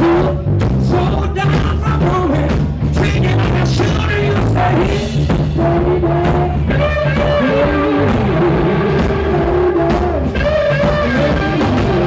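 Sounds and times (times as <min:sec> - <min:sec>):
bass: 0:00.0 - 0:12.0
drums: 0:00.0 - 0:12.0.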